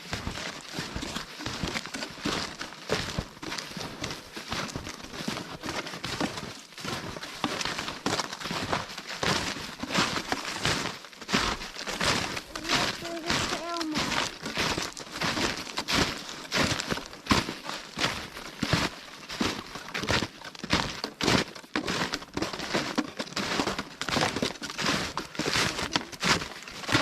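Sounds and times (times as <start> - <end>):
snowshoe footsteps crunching snow: 0.0 - 27.0.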